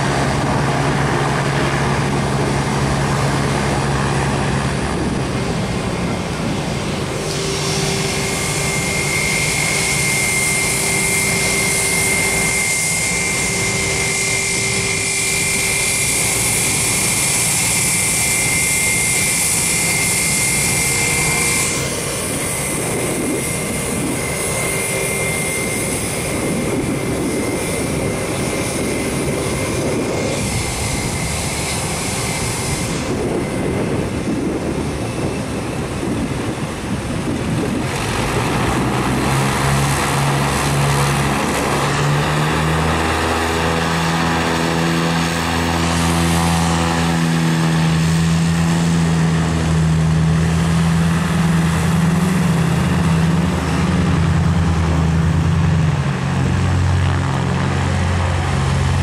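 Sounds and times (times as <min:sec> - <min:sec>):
twin piston engines running: 0:00.0 - 0:59.0.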